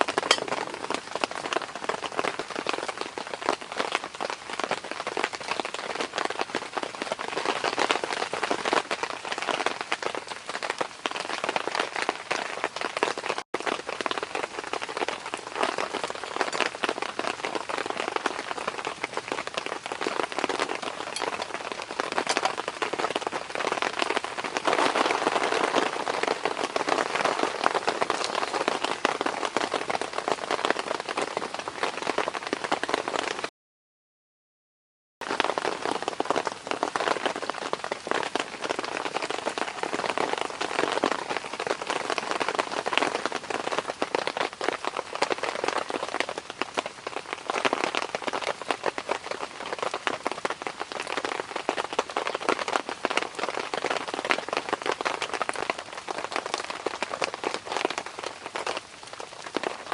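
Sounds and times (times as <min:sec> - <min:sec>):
steady rain falling: 0:00.0 - 0:33.5, 0:35.2 - 0:59.9.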